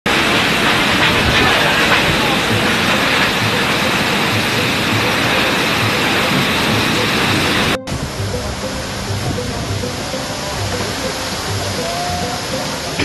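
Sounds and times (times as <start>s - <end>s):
torrential rain and wind: 0.1s - 13.0s.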